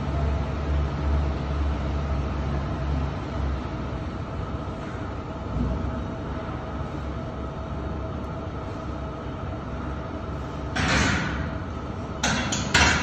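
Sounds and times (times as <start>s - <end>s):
ventilation rumble and hum: 0.0s - 13.0s.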